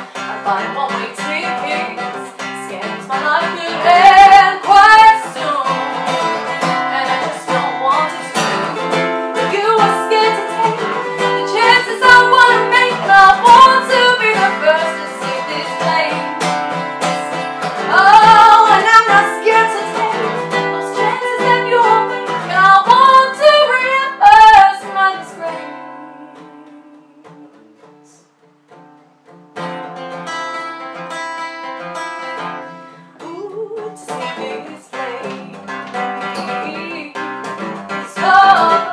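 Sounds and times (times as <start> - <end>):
woman singing: 0.0 - 28.3, 32.9 - 38.9
strummed acoustic guitar: 0.0 - 38.9.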